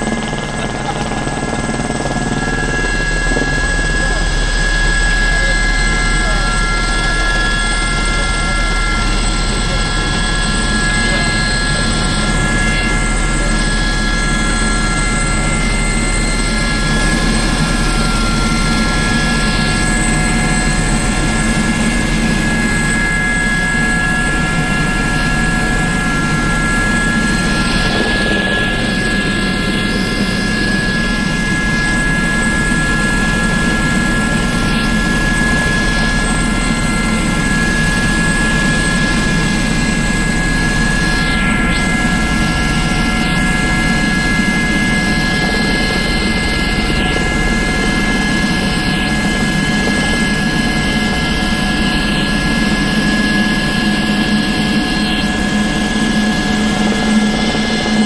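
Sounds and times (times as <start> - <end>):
helicopter turbine whine: 0.0 - 58.0
low rotor noise: 0.0 - 58.0.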